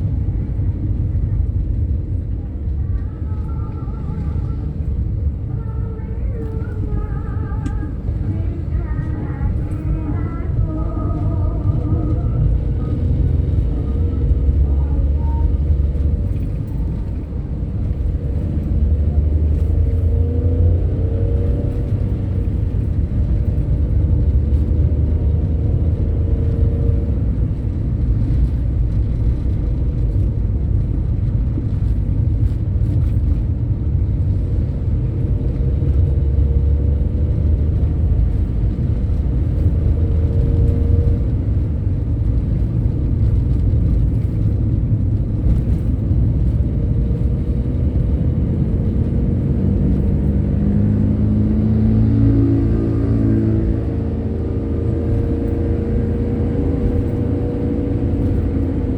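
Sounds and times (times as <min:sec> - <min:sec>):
heavy vehicle engines rumbling: 0:00.0 - 0:58.9.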